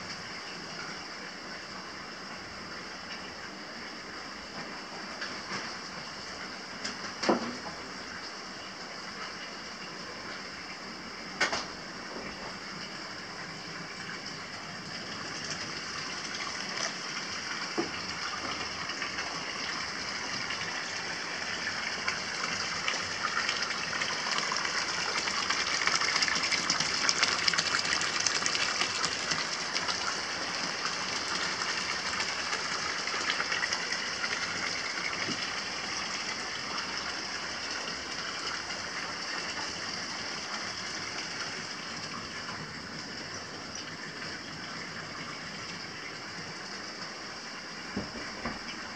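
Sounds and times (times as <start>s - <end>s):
water pouring into a bath: 7.3s - 48.9s.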